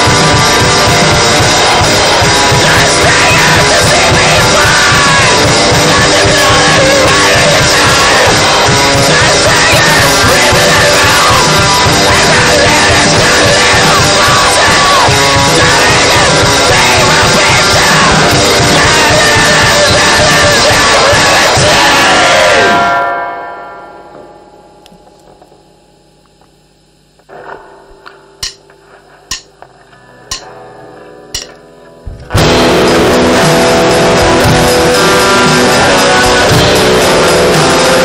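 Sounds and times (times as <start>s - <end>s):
distorted drums: 0.0s - 22.8s, 26.5s - 30.6s, 31.3s - 38.0s
distorted guitar: 0.0s - 38.0s.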